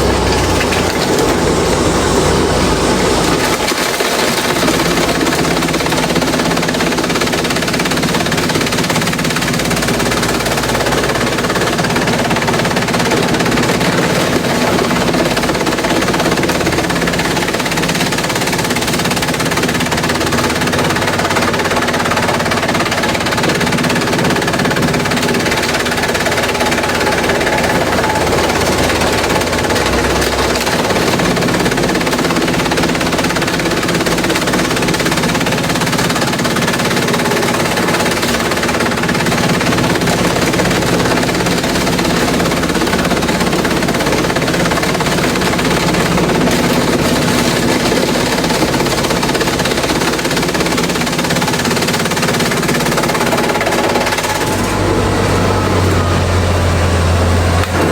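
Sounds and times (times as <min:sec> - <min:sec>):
bamboo crackling in shredder: 0:00.0 - 0:57.9
shredder motor humming: 0:00.0 - 0:57.9.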